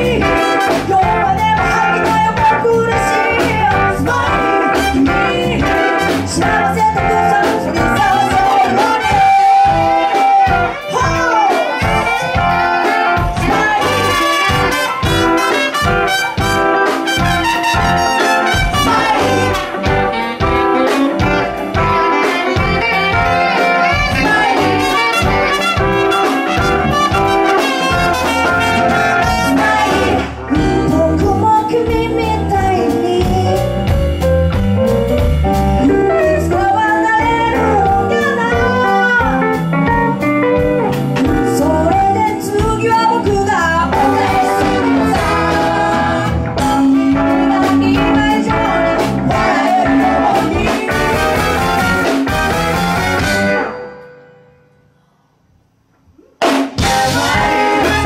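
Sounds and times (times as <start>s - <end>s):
person singing: 0.0s - 15.5s, 17.9s - 33.8s, 35.8s - 51.8s, 56.8s - 58.0s
live jazzy band playing: 0.0s - 54.5s, 56.3s - 58.0s.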